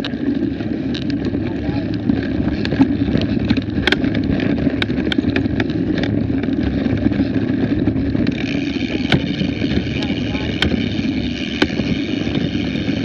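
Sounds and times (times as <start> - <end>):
bike rolling on dirt trail: 0.0 - 13.0
high steady hum: 0.0 - 13.0
sharp clicks and rattles: 0.0 - 13.0
wind buffeting microphone: 0.0 - 13.0.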